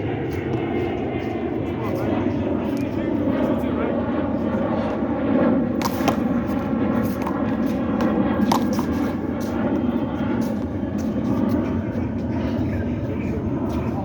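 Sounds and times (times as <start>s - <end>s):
rumbling background noise: 0.0s - 14.0s.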